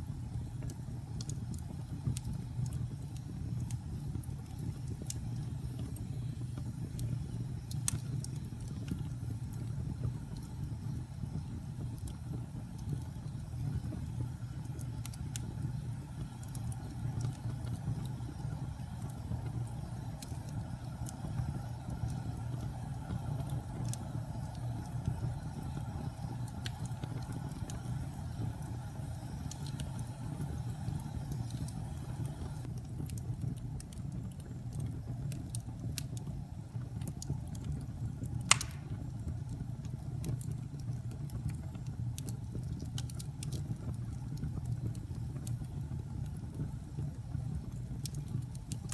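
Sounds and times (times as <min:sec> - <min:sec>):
fire crackling and popping: 0:00.0 - 0:48.9
fire flames burning: 0:00.0 - 0:48.9.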